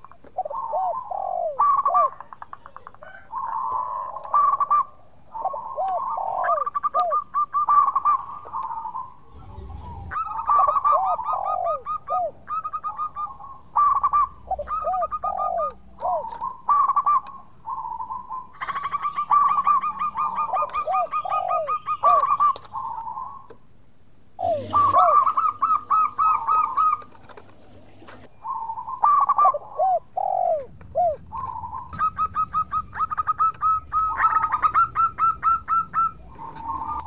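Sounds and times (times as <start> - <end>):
dove singing and cooing: 0.0 - 23.5, 24.4 - 37.0.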